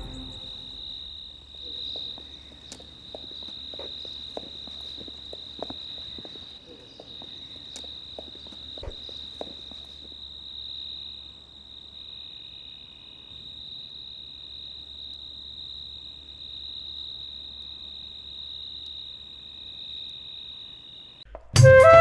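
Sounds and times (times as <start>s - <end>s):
crickets trilling: 0.0s - 21.3s.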